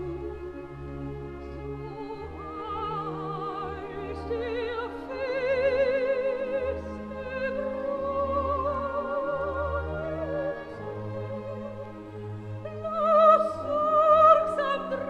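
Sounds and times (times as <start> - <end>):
operatic singing with vibrato: 0.0 - 15.0.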